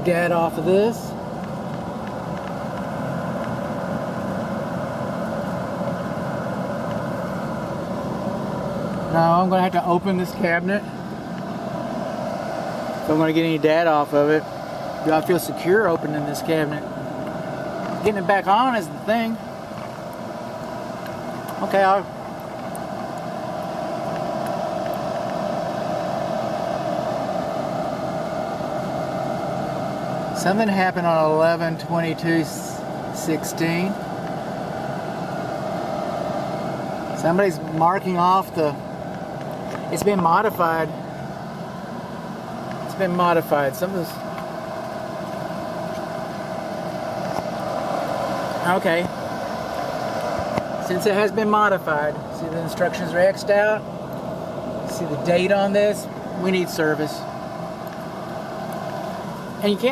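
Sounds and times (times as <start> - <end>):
air handler droning: 0.0 - 59.9.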